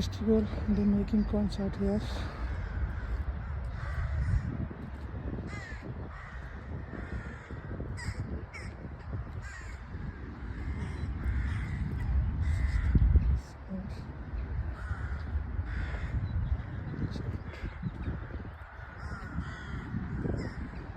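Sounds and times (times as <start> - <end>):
birds calling: 0.0 - 20.9
steady low rumble: 0.0 - 20.9.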